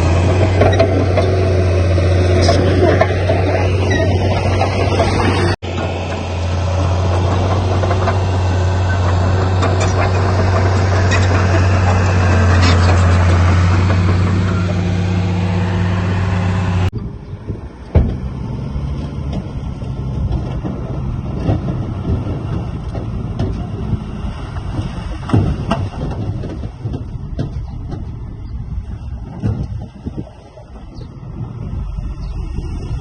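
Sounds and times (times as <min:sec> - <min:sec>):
metallic clanks and knocks: 0:00.0 - 0:15.2, 0:17.3 - 0:24.1, 0:24.8 - 0:31.1
diesel machinery running: 0:00.0 - 0:33.0
rough engine running: 0:00.0 - 0:33.0.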